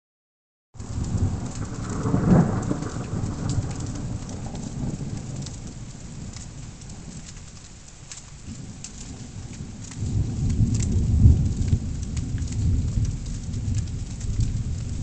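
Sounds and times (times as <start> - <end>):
thunder rumbling: 0.8 - 7.4, 8.3 - 15.0
falling rain: 0.8 - 15.0
rain drop ticks: 0.8 - 15.0.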